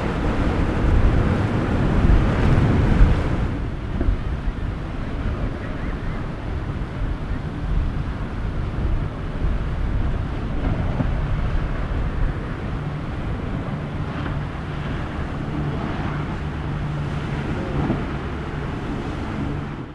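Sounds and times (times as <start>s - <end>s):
boat engine drone: 0.0s - 19.9s
rough water: 0.0s - 19.9s
wind on microphone: 0.0s - 19.9s.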